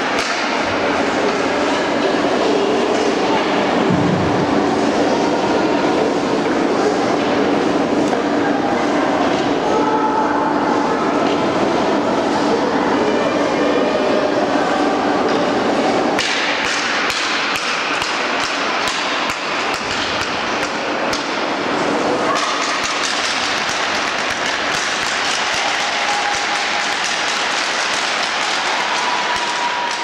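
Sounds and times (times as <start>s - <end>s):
ice rink noise: 0.0s - 30.0s.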